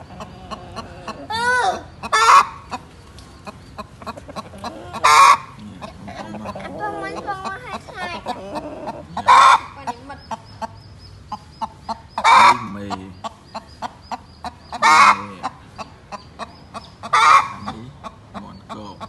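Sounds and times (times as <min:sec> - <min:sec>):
harsh poultry calls: 0:00.0 - 0:19.0.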